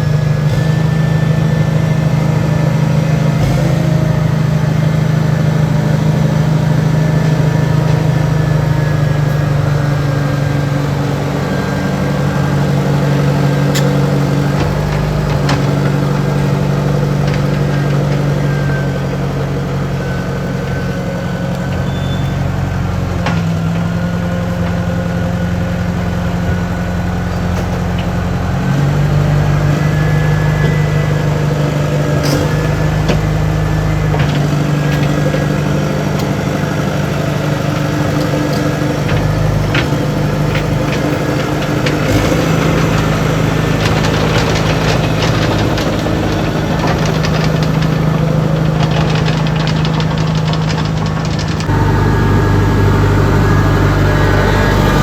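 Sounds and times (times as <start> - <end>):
loader engine running: 0.0 - 55.0.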